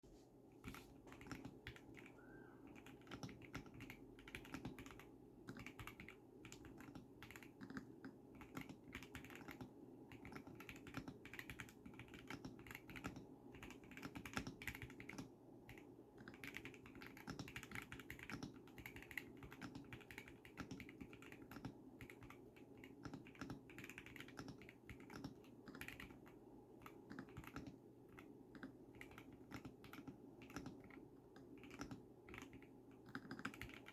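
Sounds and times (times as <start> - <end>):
mechanical keyboard typing: 0.6 - 2.1, 2.7 - 33.9.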